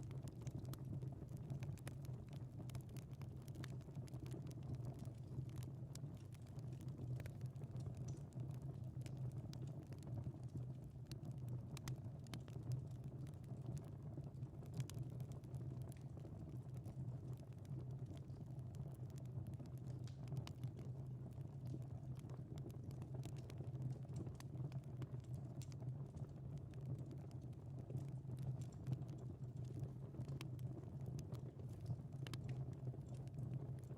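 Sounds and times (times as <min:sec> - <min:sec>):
fire pops and snaps: 0:00.0 - 0:33.9
wood fire crackling: 0:00.0 - 0:33.9.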